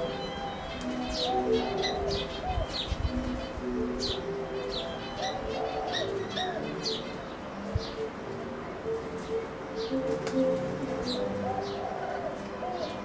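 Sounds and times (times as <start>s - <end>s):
bird chirping: 0.0s - 13.0s
doves cooing: 0.0s - 13.0s.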